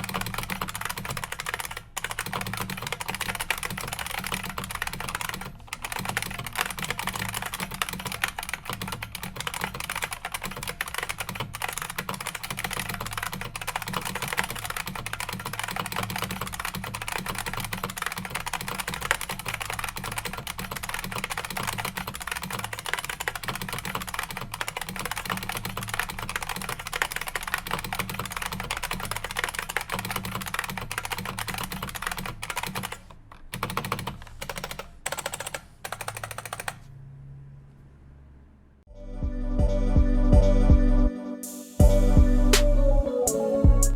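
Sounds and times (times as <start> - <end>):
clicky keyboard typing: 0.0 - 36.9.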